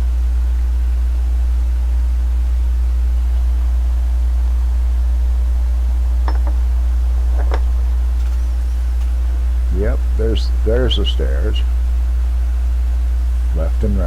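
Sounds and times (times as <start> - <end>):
trike low rumble: 1.6 - 14.0.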